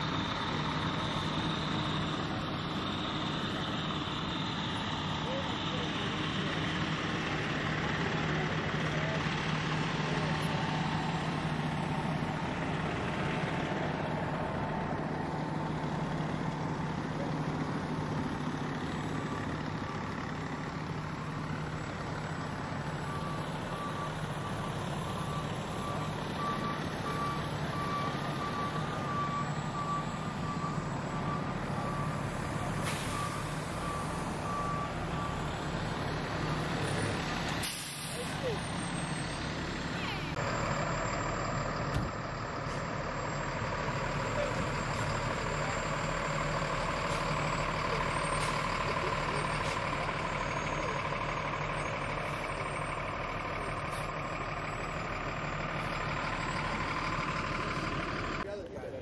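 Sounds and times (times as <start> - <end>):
reversing beeper: 0.0 - 58.4
diesel engines running: 0.0 - 59.0.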